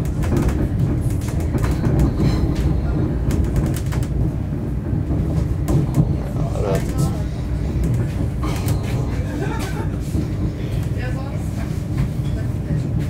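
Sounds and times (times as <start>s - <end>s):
wheels rumbling on track: 0.0s - 13.0s.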